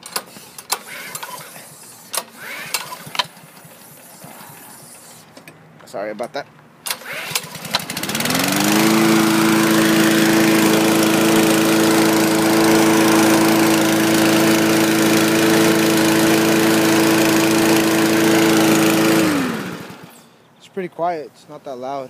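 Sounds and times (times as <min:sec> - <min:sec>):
lawn mower engine running: 0:00.0 - 0:05.3, 0:06.9 - 0:20.2.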